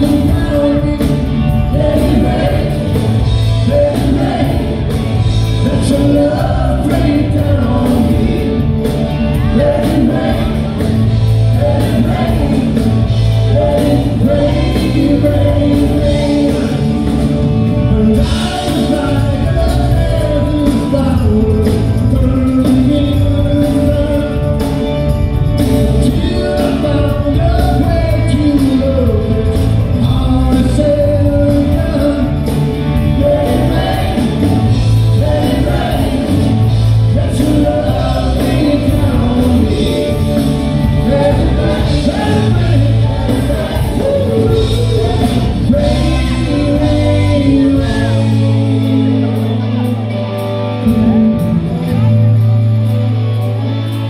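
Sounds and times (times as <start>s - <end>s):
man singing: 0.0s - 52.2s
bass guitar: 0.0s - 54.0s
drums: 0.0s - 54.0s
electric guitar: 0.0s - 54.0s.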